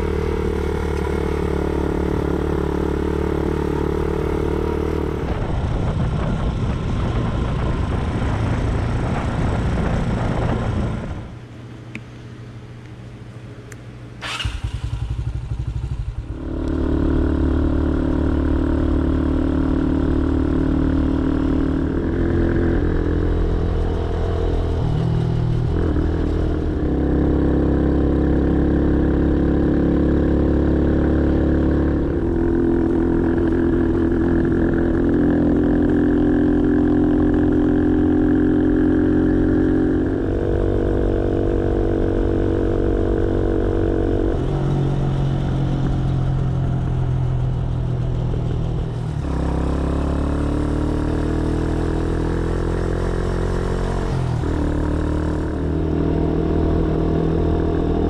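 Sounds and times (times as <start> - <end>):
motorcycle engine revving: 0.0 - 11.3, 14.2 - 58.0.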